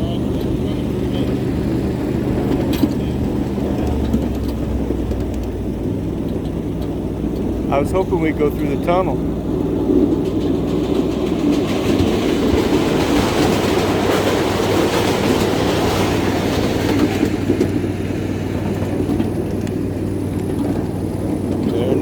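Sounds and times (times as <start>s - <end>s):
miniature train wheels rumbling: 0.0s - 22.0s.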